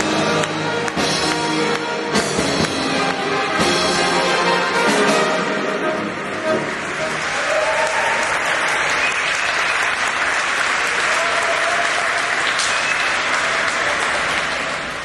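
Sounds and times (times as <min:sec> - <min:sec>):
audience applauding: 0:00.0 - 0:03.7, 0:06.1 - 0:15.0.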